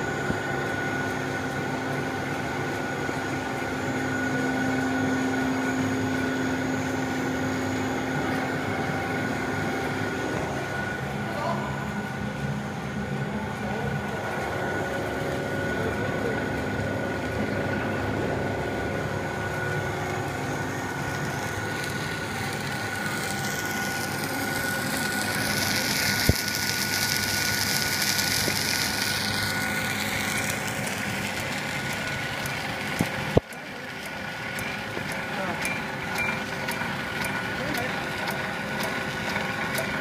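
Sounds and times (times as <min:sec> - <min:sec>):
high hum: 0:00.0 - 0:33.9.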